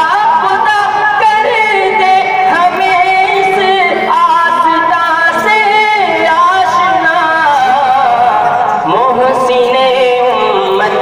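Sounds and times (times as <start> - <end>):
man singing over loudspeakers: 0.0 - 11.0.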